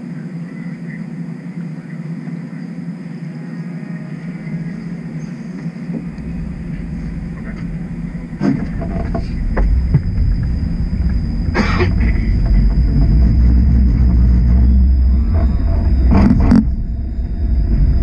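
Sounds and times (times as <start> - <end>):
faint high whine: 0.0 - 18.0
streetcar motor and wheel rumble: 0.0 - 18.0.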